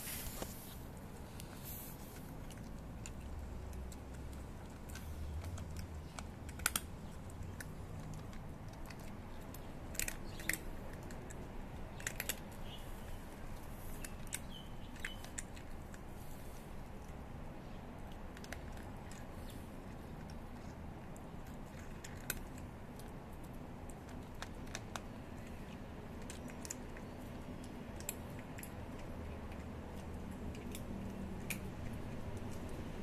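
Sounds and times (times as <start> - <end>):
cat crunching dry kibble: 0.0 - 33.0.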